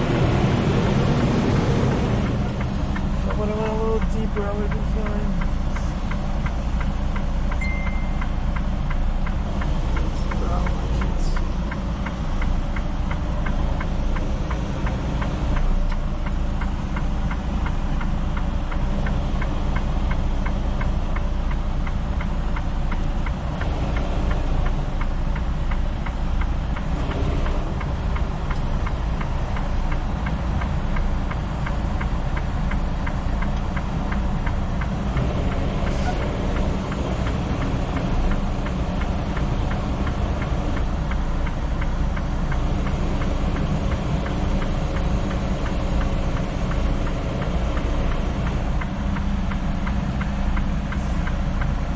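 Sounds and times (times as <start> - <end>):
diesel truck engine idling: 0.0 - 51.9.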